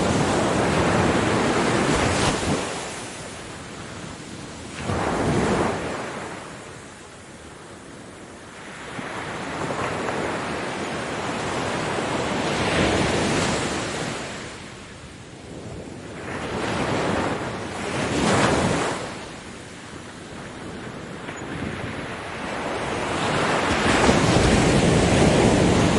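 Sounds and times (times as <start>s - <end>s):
ocean waves breaking on beach: 0.0s - 25.9s.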